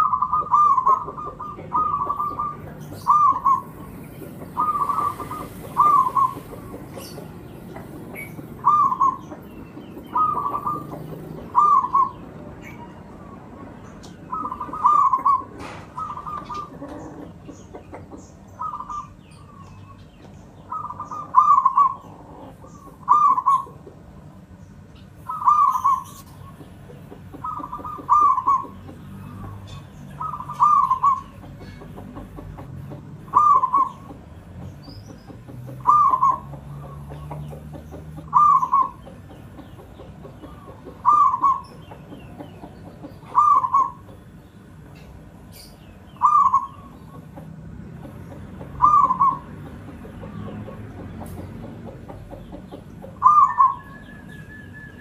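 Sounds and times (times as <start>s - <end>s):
dove cooing: 0.0s - 20.0s, 20.6s - 24.2s, 25.2s - 44.4s, 46.2s - 55.0s.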